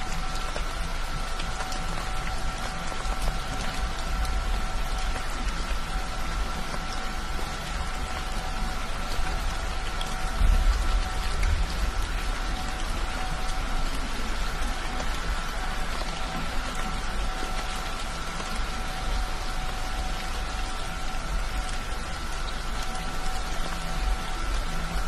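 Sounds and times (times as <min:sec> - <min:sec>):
heavy rain on car roof: 0:00.0 - 0:25.0.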